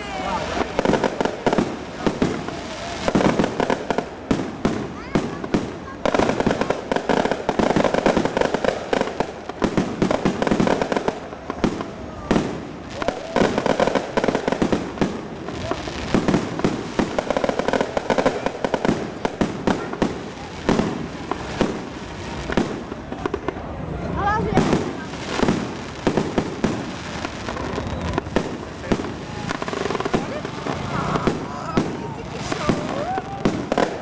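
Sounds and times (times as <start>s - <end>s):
crowd voices: 0.0s - 34.0s
fireworks crackling and popping: 0.0s - 34.0s.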